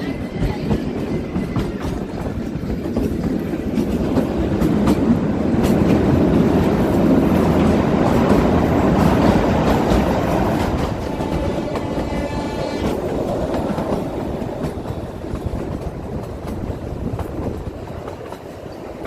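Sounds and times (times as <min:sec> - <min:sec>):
train rumbling along track: 0:00.0 - 0:19.0.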